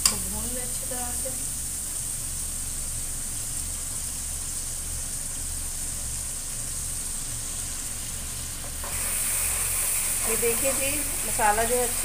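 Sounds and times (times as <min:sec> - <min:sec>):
masala sizzling in a wok: 0:00.0 - 0:12.0.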